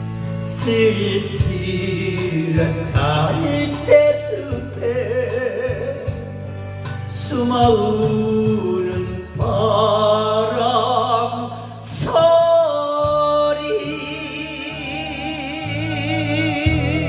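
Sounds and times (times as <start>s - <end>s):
instrumental backing music: 0.0s - 17.0s
person singing with vibrato: 0.4s - 17.0s.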